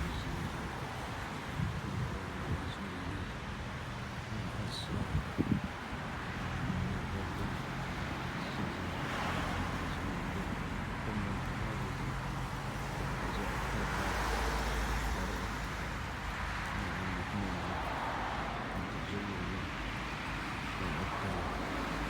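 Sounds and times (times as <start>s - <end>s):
passing cars humming: 0.0s - 22.0s.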